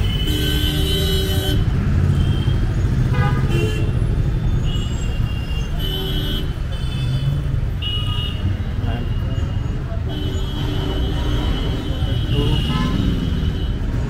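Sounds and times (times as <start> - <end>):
street traffic rumble: 0.0 - 14.0
vehicle horns honking: 0.0 - 14.0.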